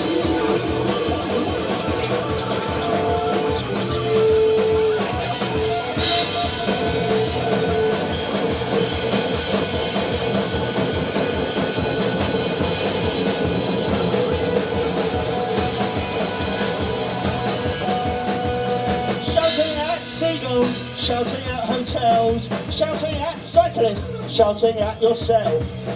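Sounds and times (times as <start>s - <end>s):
live rock band playing: 0.0s - 25.9s.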